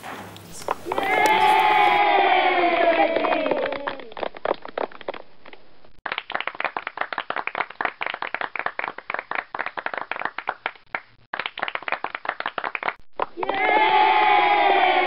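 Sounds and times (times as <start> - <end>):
people clapping: 0.0 - 15.0.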